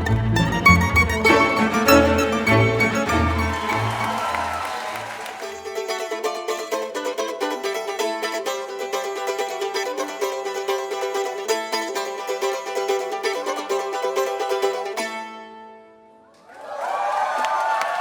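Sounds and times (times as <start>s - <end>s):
mandolin plucked notes: 0.0s - 4.7s, 5.4s - 16.1s.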